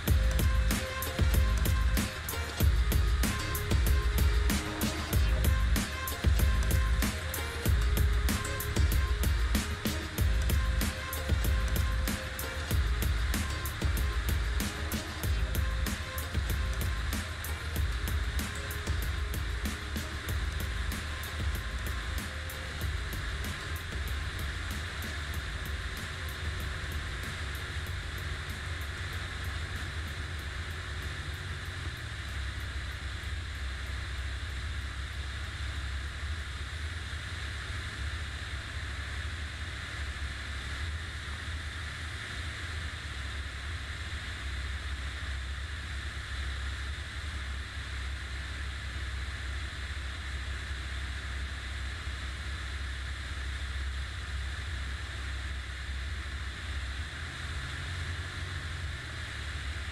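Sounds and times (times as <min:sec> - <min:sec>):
faint higher hum: 0:00.0 - 0:59.9
low engine drone: 0:00.0 - 0:59.9.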